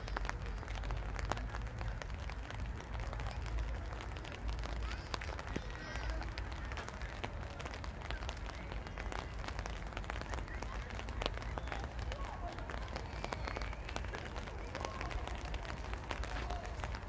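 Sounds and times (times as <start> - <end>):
footsteps on wet paving: 0.0 - 17.0
rain patter: 0.0 - 17.0.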